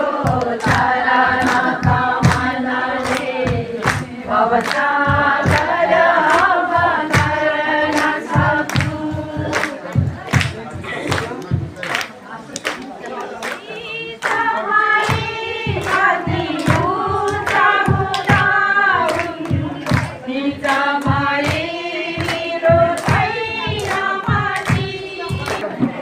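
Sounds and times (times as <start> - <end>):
crowd singing: 0.0 - 26.0
hands clapping in time: 0.1 - 26.0.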